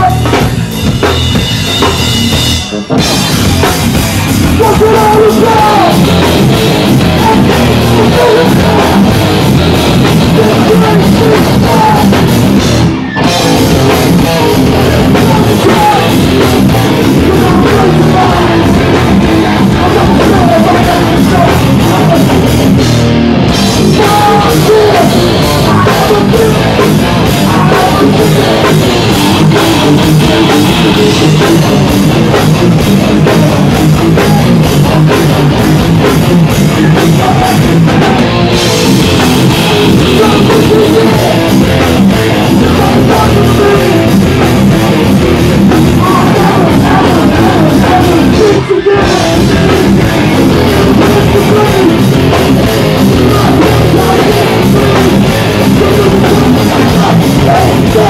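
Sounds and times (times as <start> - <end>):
distorted electric guitars: 0.0 - 58.0
punk vocals: 0.0 - 58.0.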